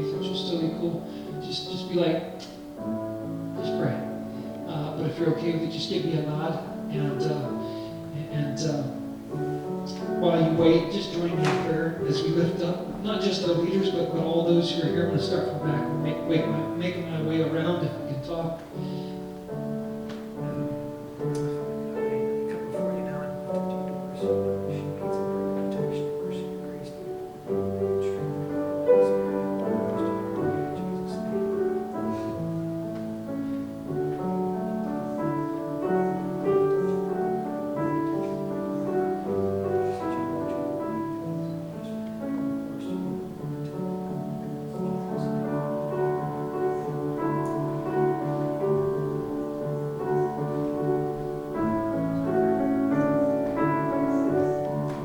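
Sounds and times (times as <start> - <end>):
slow soft piano music: 0.0 - 55.0.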